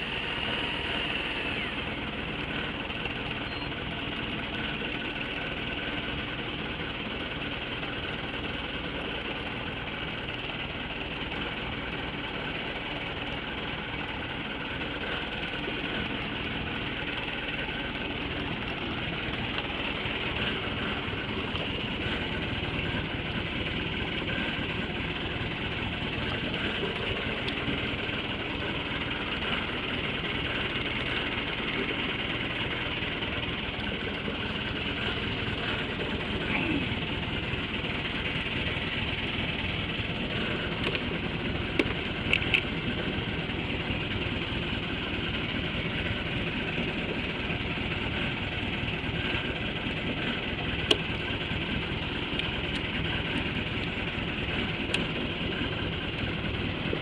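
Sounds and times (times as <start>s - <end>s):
boat engine idling: 0.0s - 57.0s.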